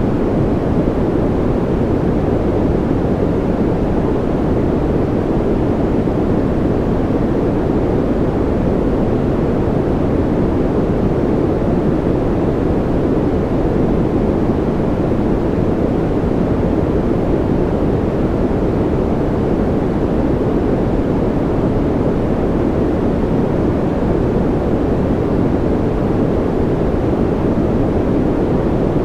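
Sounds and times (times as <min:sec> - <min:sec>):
deep rumbling white noise: 0:00.0 - 0:29.0.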